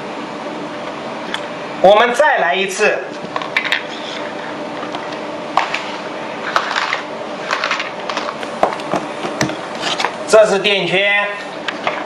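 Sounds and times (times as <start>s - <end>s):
welding machine generator hum: 0.0s - 12.0s.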